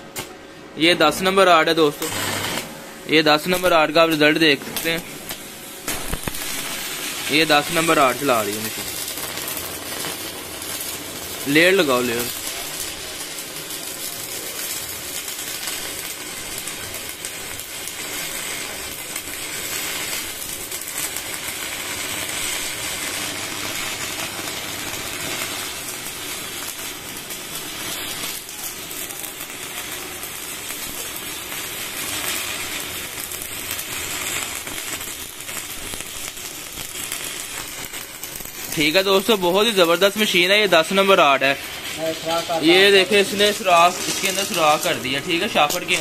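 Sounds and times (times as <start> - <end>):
welding arc crackling: 0.0 - 46.0.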